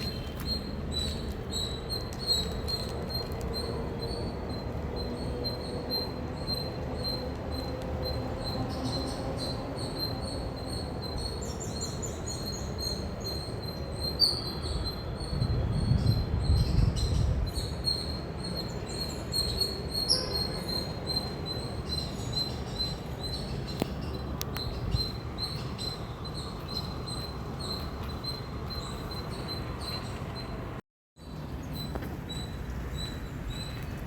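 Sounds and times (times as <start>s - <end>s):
squirrel chirping: 0.0s - 15.1s, 17.6s - 30.5s.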